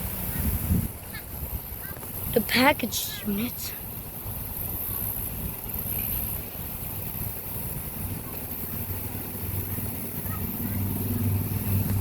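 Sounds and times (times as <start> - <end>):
air conditioning units humming: 0.0 - 12.0.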